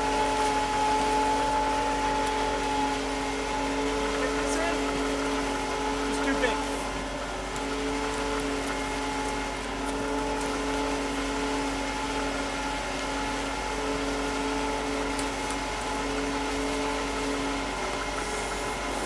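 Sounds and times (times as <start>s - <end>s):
truck engine and fuel pump humming: 0.0s - 19.0s.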